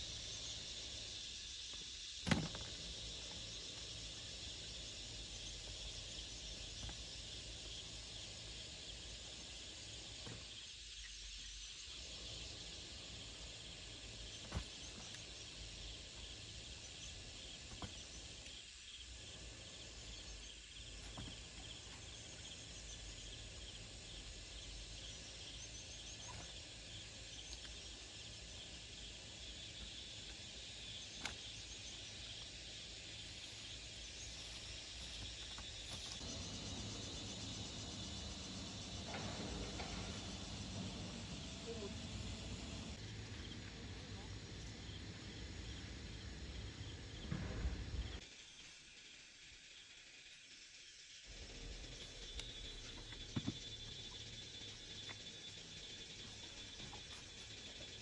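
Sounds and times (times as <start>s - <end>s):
high chirring hiss: 0.0s - 58.0s.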